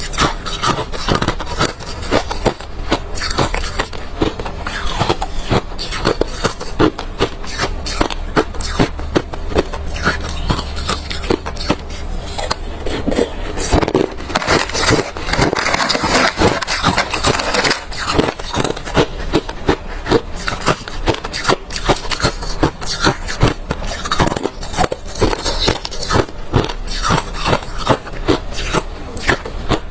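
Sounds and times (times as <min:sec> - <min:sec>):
ice crunching while chewed: 0:00.0 - 0:29.9.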